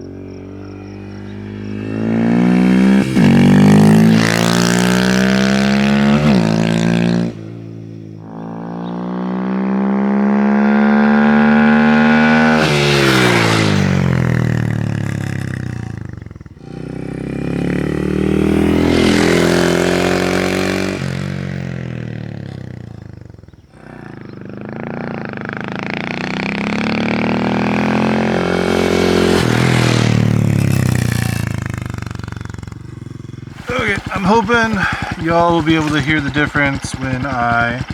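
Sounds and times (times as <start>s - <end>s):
motorcycle passing by: 0.0s - 37.9s.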